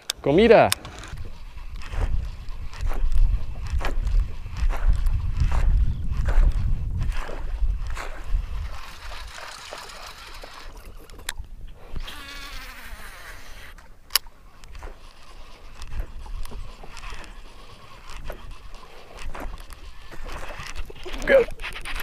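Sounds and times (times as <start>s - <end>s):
fishing reel spool whirring: 0.0s - 22.0s.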